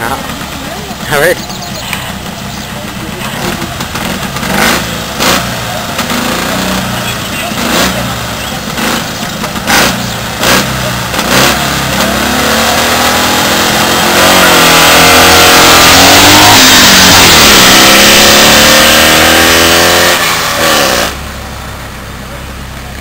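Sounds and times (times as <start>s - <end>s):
racing car engine accelerating: 0.0s - 23.0s.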